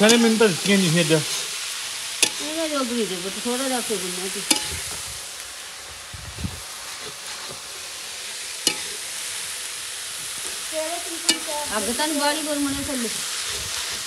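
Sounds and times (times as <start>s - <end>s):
steady sizzling hiss: 0.0s - 14.0s.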